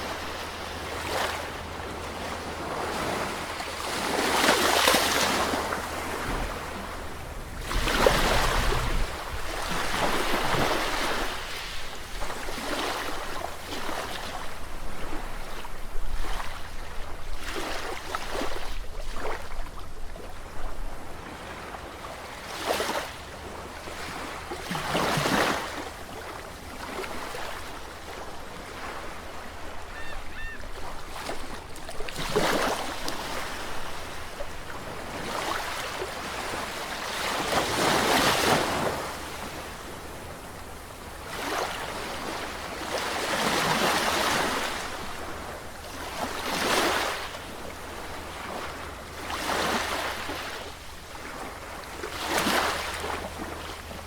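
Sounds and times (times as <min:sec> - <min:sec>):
sea waves breaking: 0:00.0 - 0:19.6, 0:21.0 - 0:54.0.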